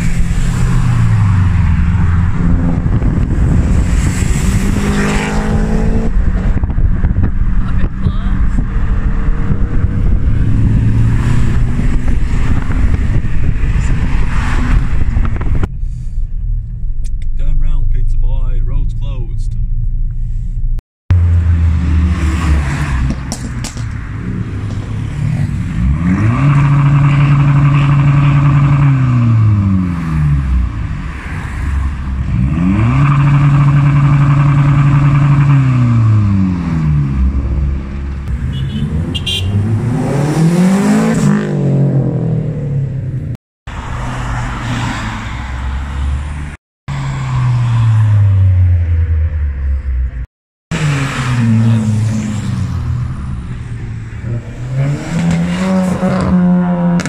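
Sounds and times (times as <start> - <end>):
car engine revving: 0.0 - 20.0, 21.1 - 57.0.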